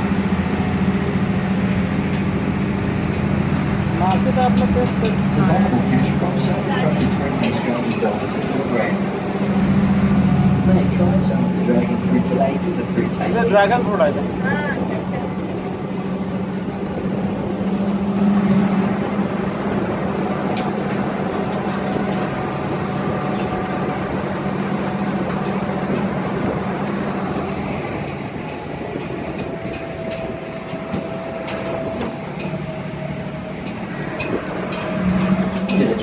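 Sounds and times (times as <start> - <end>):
vehicle engine droning: 0.0 - 36.0
light clicks and rattles: 2.0 - 17.2, 20.3 - 36.0.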